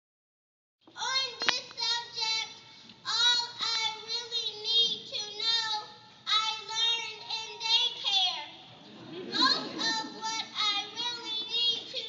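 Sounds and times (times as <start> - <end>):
young child singing: 1.0 - 8.6, 9.3 - 12.0.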